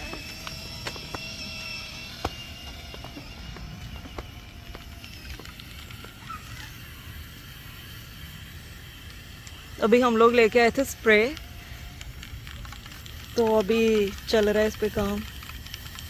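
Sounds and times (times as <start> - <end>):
low outdoor rumble: 0.0 - 16.0
spray paint can hissing: 0.0 - 16.0.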